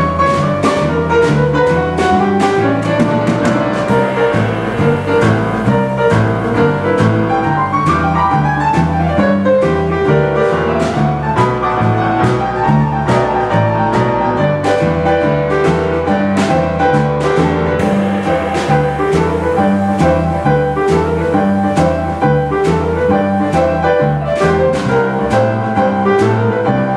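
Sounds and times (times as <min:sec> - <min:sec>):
boogie-woogie piano playing: 0:00.0 - 0:26.9.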